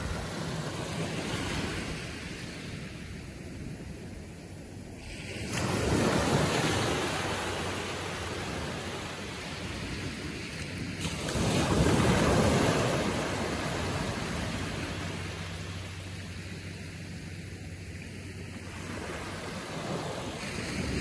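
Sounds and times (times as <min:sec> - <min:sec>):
small waves breaking on a beach: 0:00.0 - 0:21.0.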